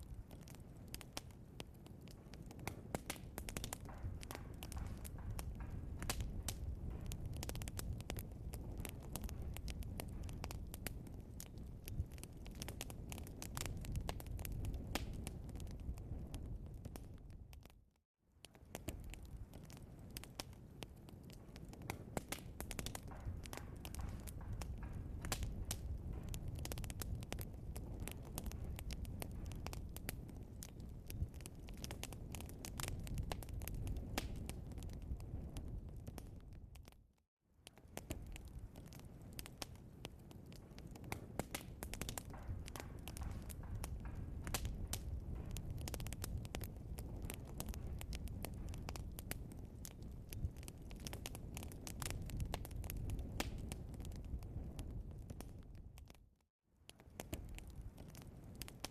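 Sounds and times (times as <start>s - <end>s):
burning logs crackling: 0.0s - 58.9s
low rumble of fire: 0.0s - 58.9s.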